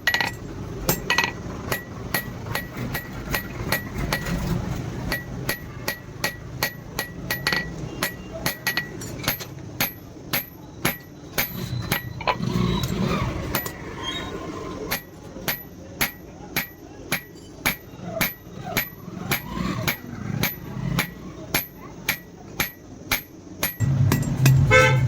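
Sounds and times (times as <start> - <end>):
hammer striking steel on anvil: 0.0 - 4.5, 5.1 - 12.2, 14.9 - 25.0.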